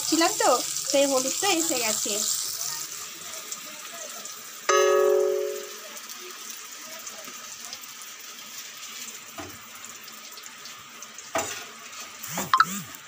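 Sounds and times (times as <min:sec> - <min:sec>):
cheese frying in a pan: 0:00.0 - 0:12.3.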